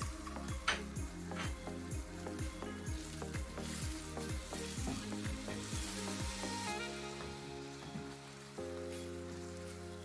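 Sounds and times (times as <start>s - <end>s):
background music with steady beat: 0.0s - 10.0s
fish and onions sizzling in a pot: 0.0s - 10.0s.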